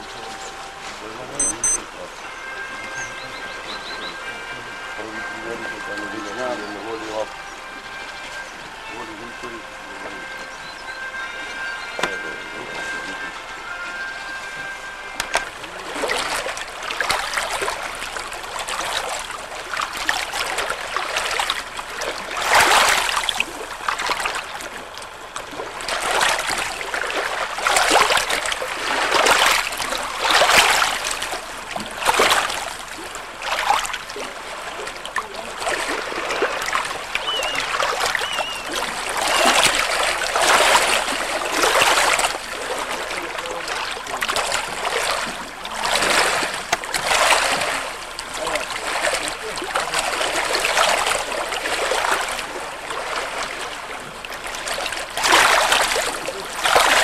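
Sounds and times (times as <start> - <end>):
waves lapping over rocks: 0.0 - 57.0.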